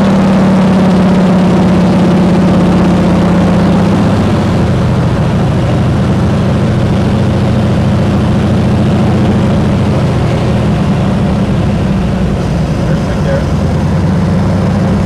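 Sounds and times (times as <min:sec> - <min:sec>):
propeller plane engine from cabin: 0:00.0 - 0:15.0.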